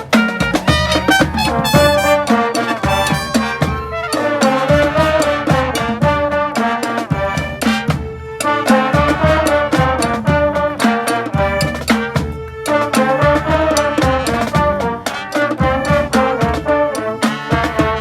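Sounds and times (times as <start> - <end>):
brass band playing: 0.0 - 18.0
driving drum beat: 0.0 - 18.0
trumpets and trombones: 0.0 - 18.0.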